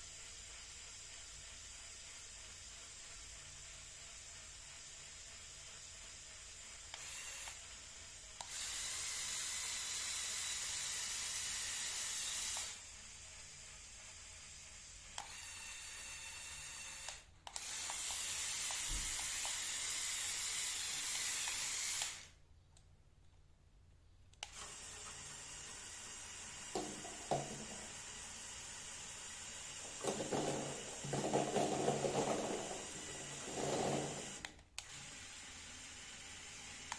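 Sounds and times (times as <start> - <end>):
electric motors and gears whirring: 0.0 - 22.4, 24.4 - 36.9.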